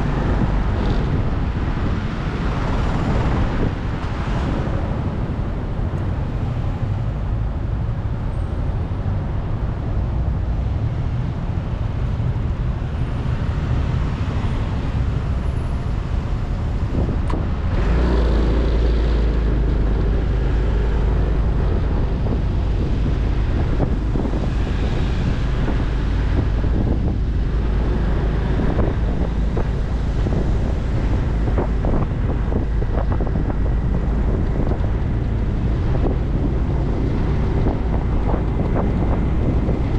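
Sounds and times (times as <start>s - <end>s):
road noise: 0.0s - 39.9s
wind on microphone: 0.0s - 39.9s.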